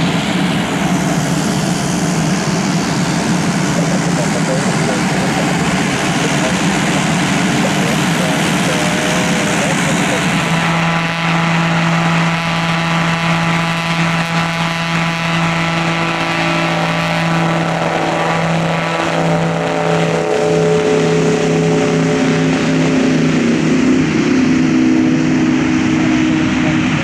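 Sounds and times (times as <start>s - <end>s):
propeller aircraft drone: 0.0s - 27.0s.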